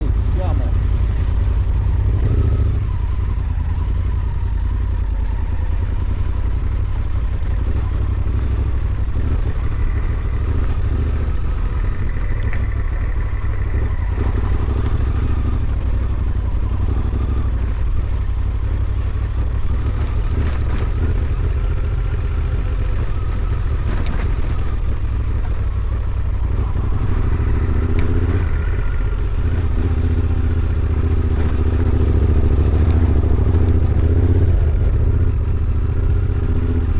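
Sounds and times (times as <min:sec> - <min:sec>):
motorcycle engine rumbling: 0:00.0 - 0:36.9.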